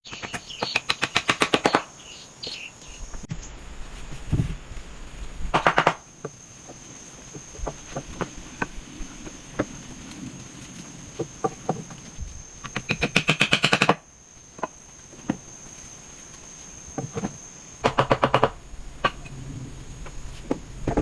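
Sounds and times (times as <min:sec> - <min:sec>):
crickets chirping: 0:00.1 - 0:21.0.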